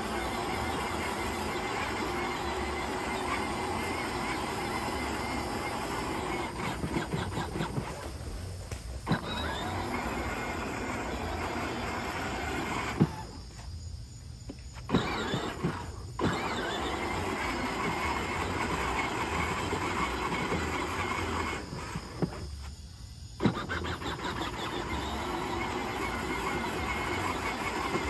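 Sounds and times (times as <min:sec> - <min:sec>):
toy car motor whine: 0:00.0 - 0:13.6, 0:14.8 - 0:22.7, 0:23.3 - 0:28.0.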